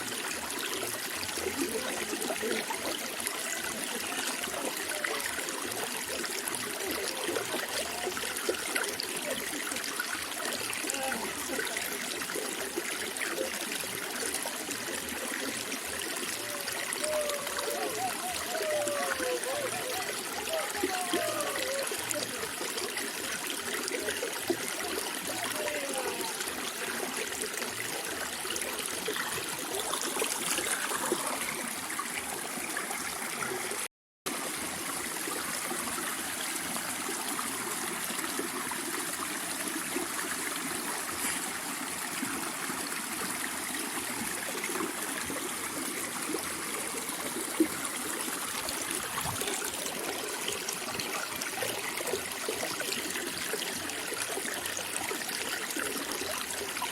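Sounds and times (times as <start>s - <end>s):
stream trickling and gurgling: 0.0s - 56.9s.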